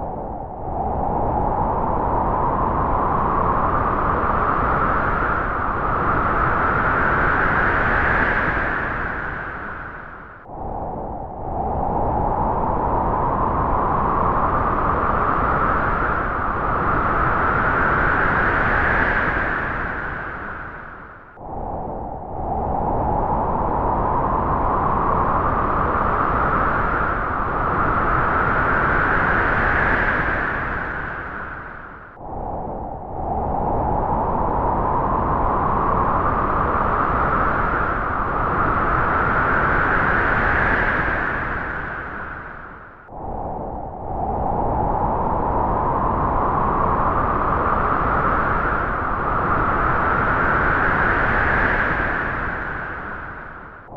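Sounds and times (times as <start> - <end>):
wind gusting with whistle: 0.0 - 53.9.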